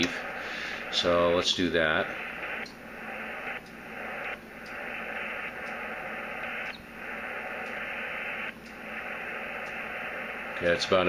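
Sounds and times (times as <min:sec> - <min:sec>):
radio band noise hiss: 0:00.0 - 0:11.0.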